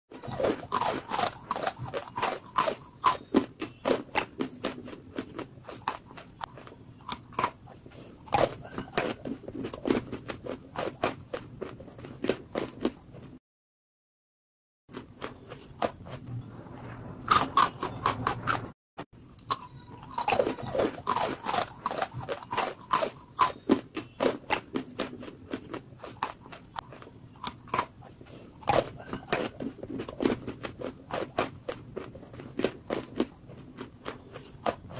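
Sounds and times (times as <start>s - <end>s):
chalk being chewed and crunching: 0.1s - 13.3s, 14.9s - 16.3s, 19.4s - 34.9s.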